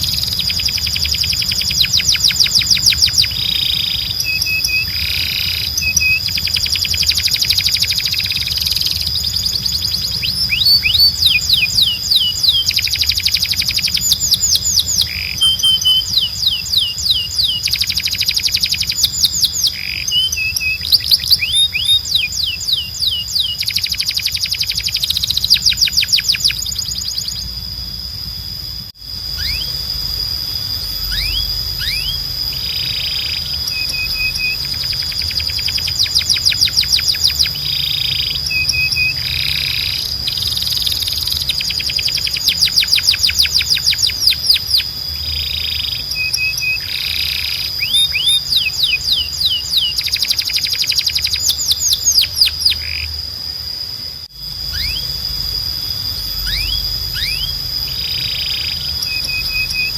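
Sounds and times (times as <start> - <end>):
canary singing trills: 0.0 - 59.9
low hum: 0.0 - 59.9
steady high tone: 0.0 - 59.9.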